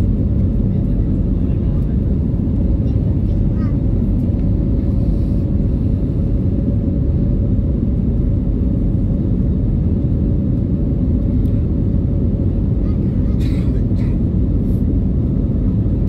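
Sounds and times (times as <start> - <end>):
airplane engine rumble in cabin: 0.0 - 16.0.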